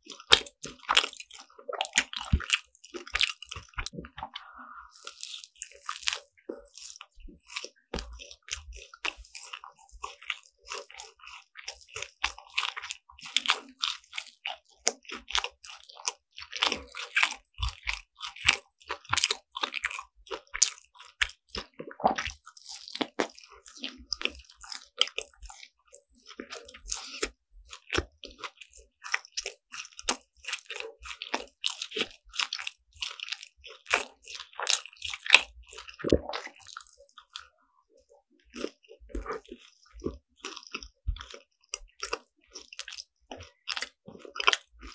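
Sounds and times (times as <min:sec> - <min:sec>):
biting and chewing crunchy food: 0:00.0 - 0:44.9.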